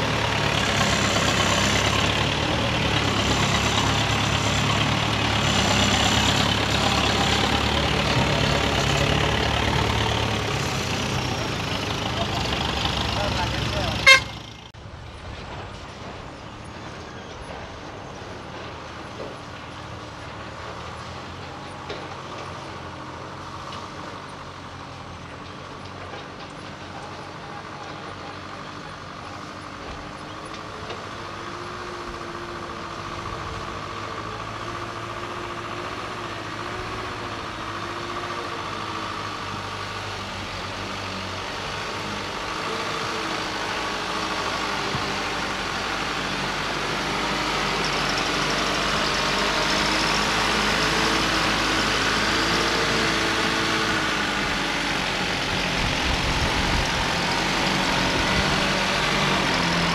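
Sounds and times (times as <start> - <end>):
diesel truck engine approaching: 0.0 - 59.9.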